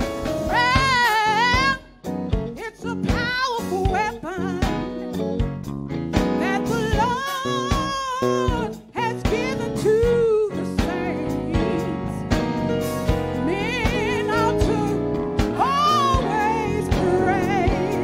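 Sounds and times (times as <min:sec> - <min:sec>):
gospel music: 0:00.0 - 0:18.0.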